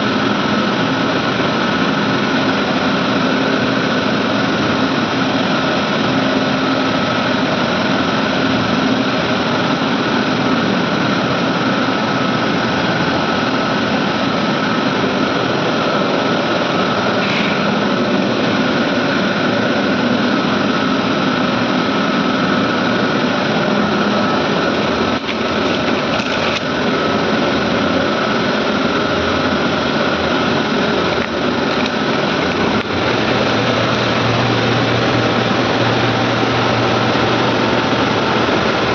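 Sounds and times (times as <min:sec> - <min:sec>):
air compressors humming: 0:00.0 - 0:38.9.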